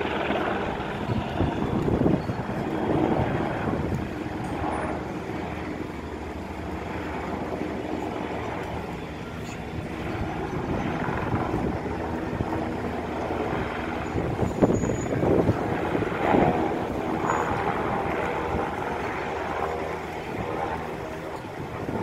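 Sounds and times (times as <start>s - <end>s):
engine drone: 0.0s - 22.0s
wind buffeting microphone: 0.0s - 22.0s.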